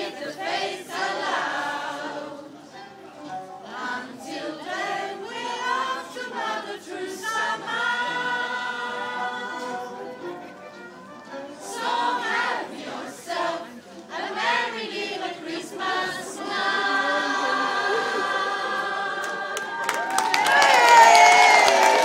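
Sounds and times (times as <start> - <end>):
group singing a carol: 0.0 - 10.6, 11.5 - 19.9.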